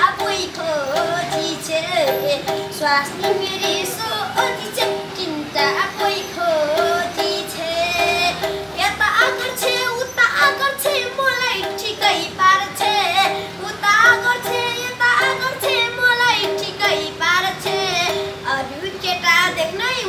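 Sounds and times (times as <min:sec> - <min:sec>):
bowed string repeated notes: 0:00.0 - 0:18.5
boy singing in a high voice: 0:00.0 - 0:20.0.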